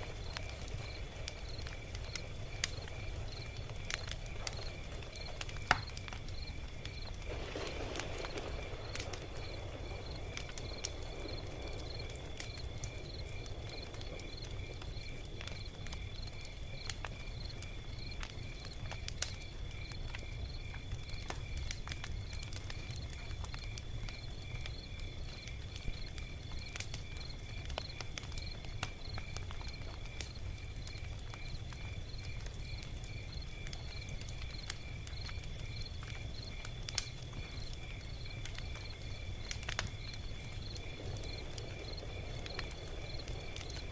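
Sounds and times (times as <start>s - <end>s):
log fire crackling and popping: 0.0s - 43.9s.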